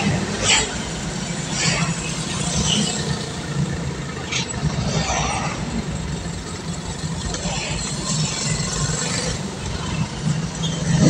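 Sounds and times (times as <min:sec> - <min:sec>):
road and wind noise: 0:00.0 - 0:11.0
vehicle engine hum: 0:00.0 - 0:11.0.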